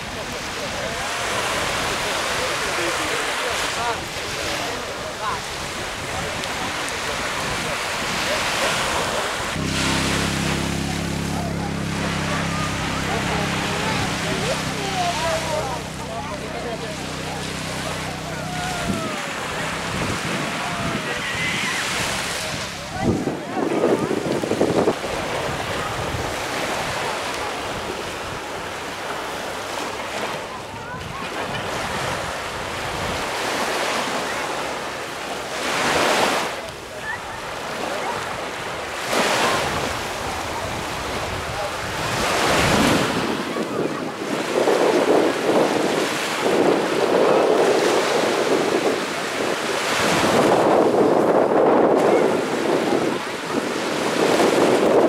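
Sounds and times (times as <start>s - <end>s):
small waves washing on shore: 0.0s - 55.0s
wind on microphone: 3.7s - 34.8s, 35.9s - 55.0s.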